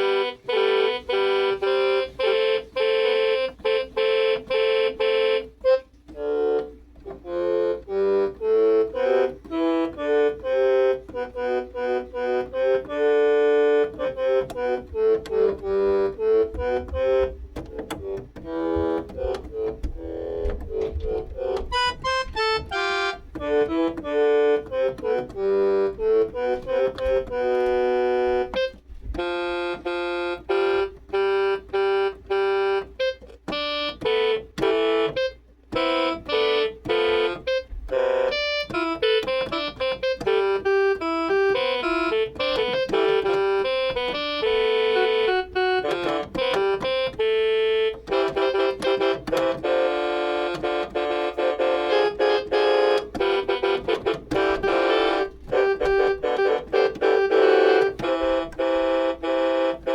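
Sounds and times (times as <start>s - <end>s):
keyboard playing fast melody: 0.0s - 59.9s.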